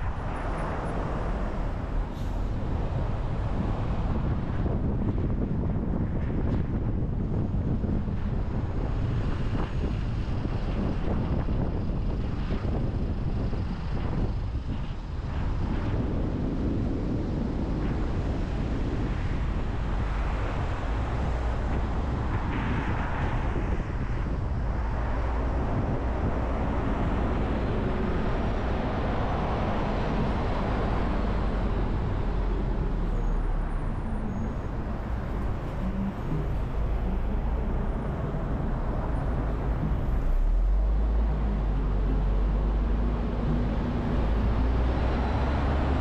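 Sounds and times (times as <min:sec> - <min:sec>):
car road noise rumble: 0:00.0 - 0:46.0.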